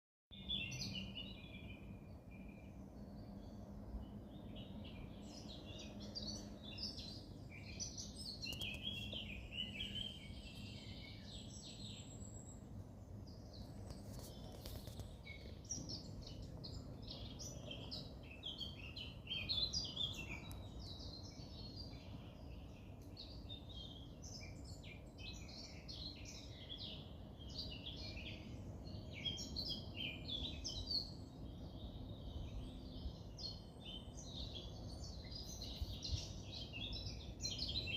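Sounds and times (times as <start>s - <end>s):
birds chirping and trilling: 0.3s - 37.9s.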